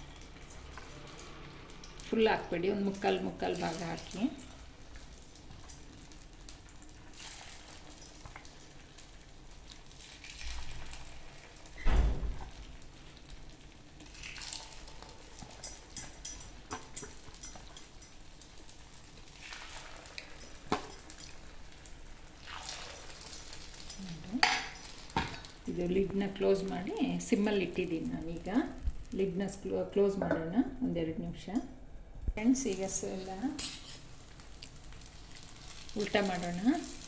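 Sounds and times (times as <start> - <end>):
batter sizzling in hot pan: 0.0 - 29.7, 32.4 - 37.0.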